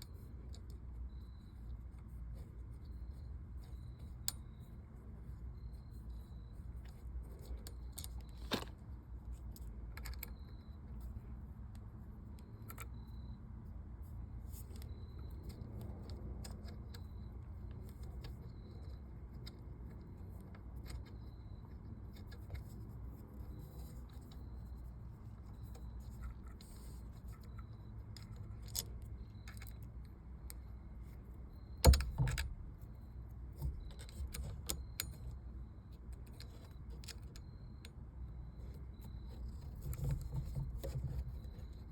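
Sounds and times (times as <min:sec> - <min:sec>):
low steady rumble: 0:00.0 - 0:41.9.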